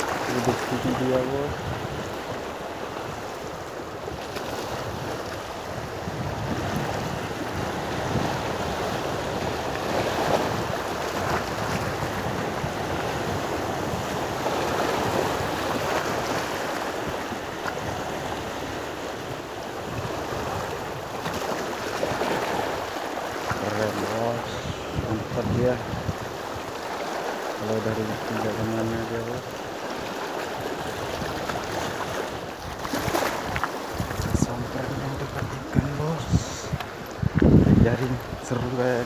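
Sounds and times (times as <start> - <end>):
waves washing over rocks: 0.0 - 39.0
wind buffeting microphone: 0.0 - 39.0.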